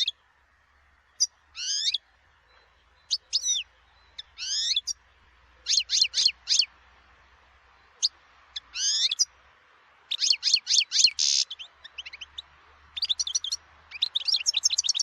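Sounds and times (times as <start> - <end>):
goldfinch twittering song: 1.0 - 6.7, 7.7 - 9.4, 10.0 - 15.0.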